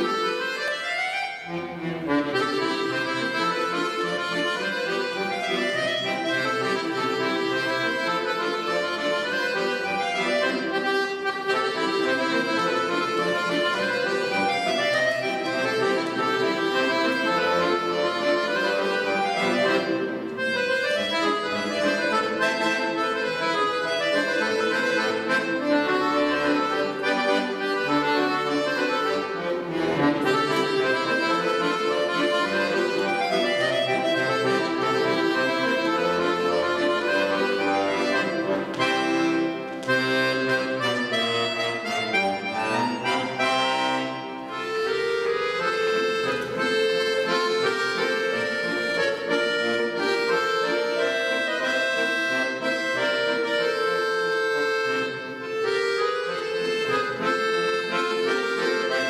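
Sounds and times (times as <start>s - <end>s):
solo accordion melody: 0.0s - 59.0s.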